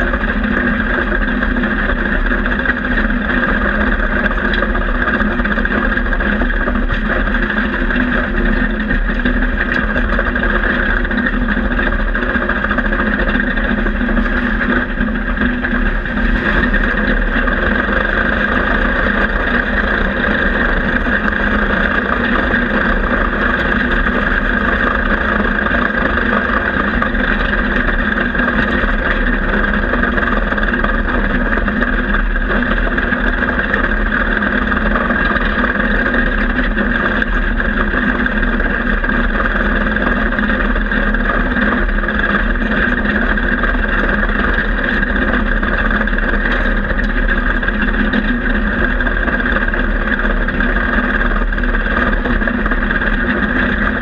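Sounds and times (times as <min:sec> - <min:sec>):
tank engine droning: 0:00.0 - 0:54.0.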